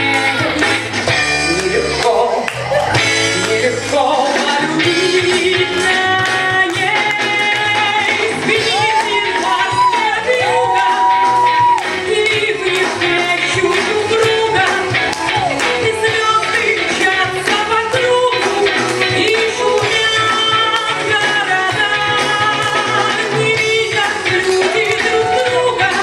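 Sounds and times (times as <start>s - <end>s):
pop song with vocals: 0.0s - 26.0s.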